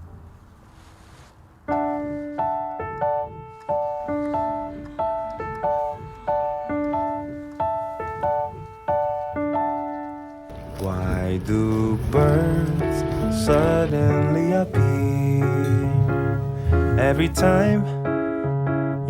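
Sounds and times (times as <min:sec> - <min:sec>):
gentle piano music: 0:01.6 - 0:19.0.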